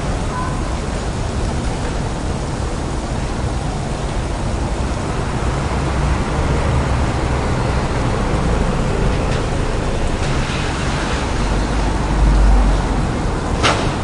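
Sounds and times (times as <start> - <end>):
low vehicle rumble: 0.0 - 14.0
traffic on wet street: 0.0 - 14.0.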